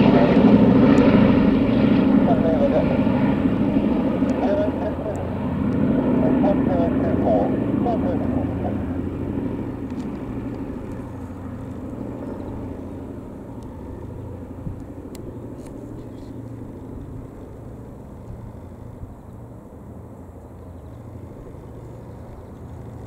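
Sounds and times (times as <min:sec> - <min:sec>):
propeller plane engines droning: 0:00.0 - 0:23.0.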